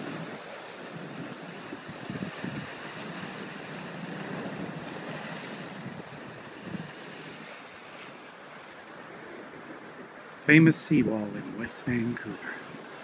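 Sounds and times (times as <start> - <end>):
waves washing against sea wall: 0.0 - 13.0.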